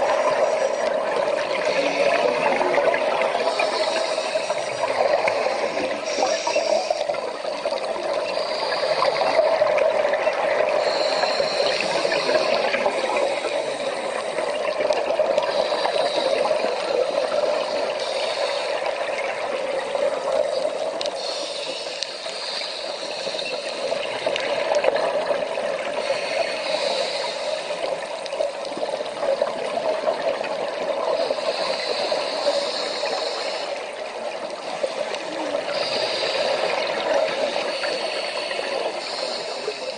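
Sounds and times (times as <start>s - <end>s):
underwater rushing water: 0.0s - 39.9s.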